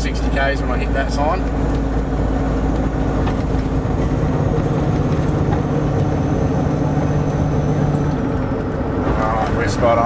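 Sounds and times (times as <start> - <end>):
car engine hum from inside: 0.0 - 10.0
road noise: 0.0 - 10.0.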